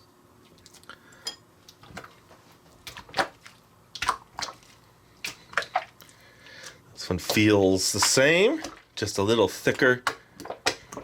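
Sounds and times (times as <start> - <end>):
slime squelching: 1.7 - 11.0.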